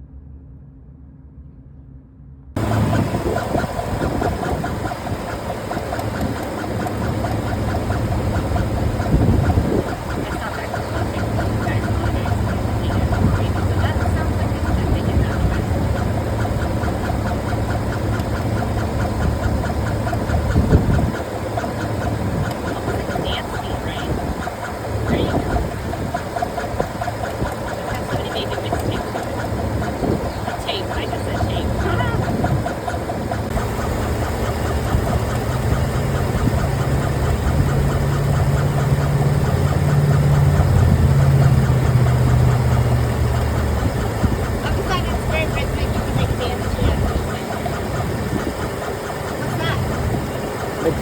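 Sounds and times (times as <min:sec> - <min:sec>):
car cabin drone: 0:00.0 - 0:51.0
road and engine rumble: 0:00.0 - 0:51.0
rhythmic whooping noise: 0:02.6 - 0:51.0.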